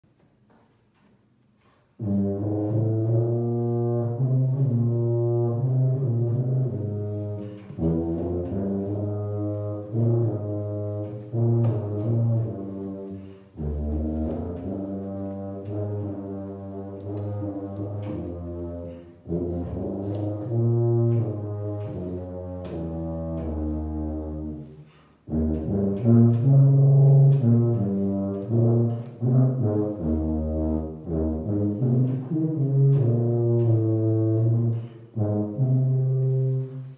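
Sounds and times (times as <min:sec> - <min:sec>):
solo tuba melody: 0:02.0 - 0:36.9.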